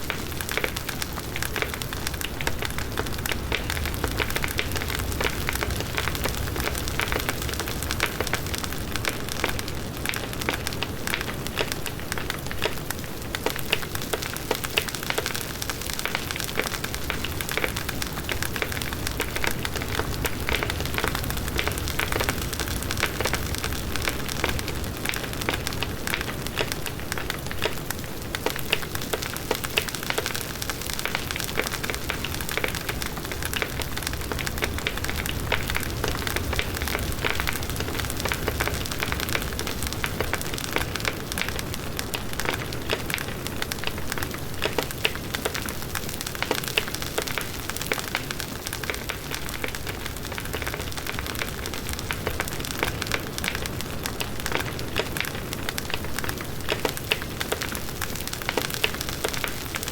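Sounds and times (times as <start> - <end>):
wood crackling and popping: 0.0 - 59.9.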